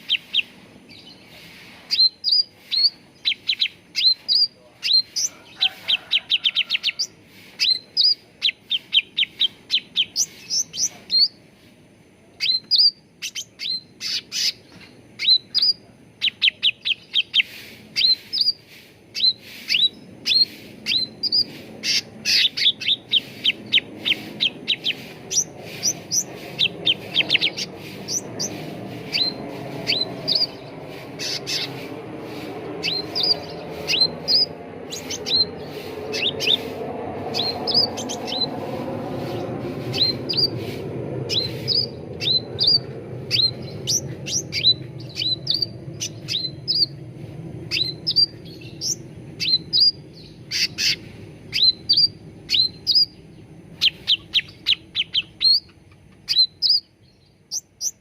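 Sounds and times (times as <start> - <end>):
birds chirping: 0.0 - 58.0
low background hum: 0.0 - 58.0.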